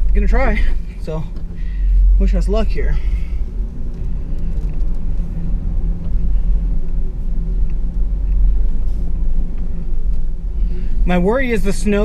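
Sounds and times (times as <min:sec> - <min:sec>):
truck engine rumbling from inside: 0:00.0 - 0:12.0.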